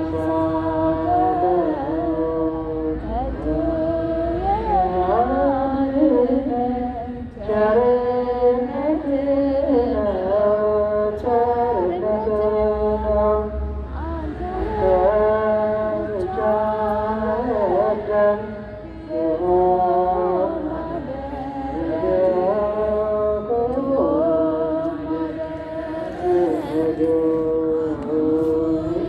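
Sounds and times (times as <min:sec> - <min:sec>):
voices chanting a hymn: 0:00.0 - 0:29.0.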